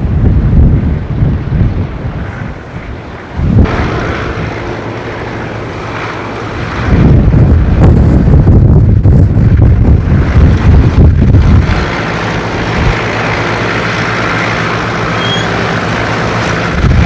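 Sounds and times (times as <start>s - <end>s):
tractor engines running: 0.0s - 17.0s
wind buffeting microphone: 0.0s - 17.0s.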